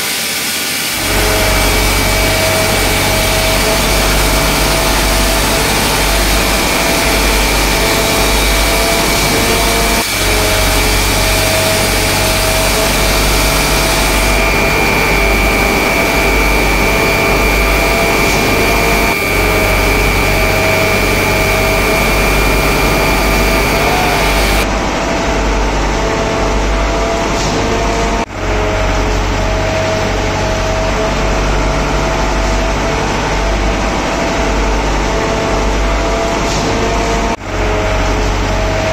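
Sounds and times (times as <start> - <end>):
loud engine drone: 0.0 - 38.9
steady high whine: 0.0 - 38.9.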